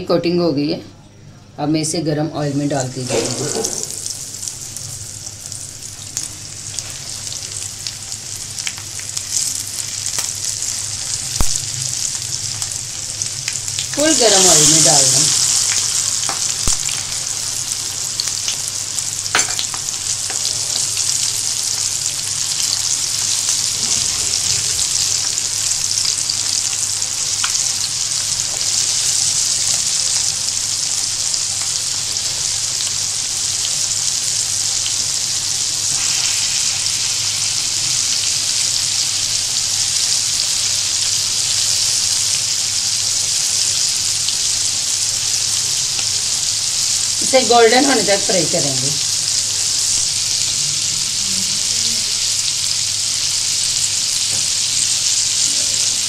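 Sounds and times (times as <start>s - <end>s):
chicken deep-frying in oil: 3.0s - 56.0s.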